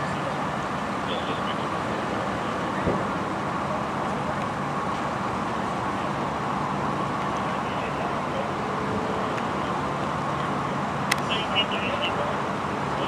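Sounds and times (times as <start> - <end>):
idling vehicle engines: 0.0 - 13.0
road traffic: 0.0 - 13.0.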